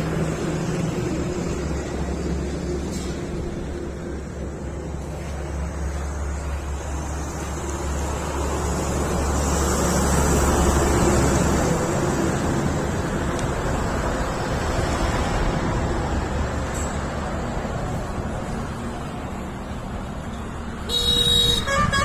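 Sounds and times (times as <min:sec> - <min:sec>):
tractor diesel engine humming: 0:00.0 - 0:22.0.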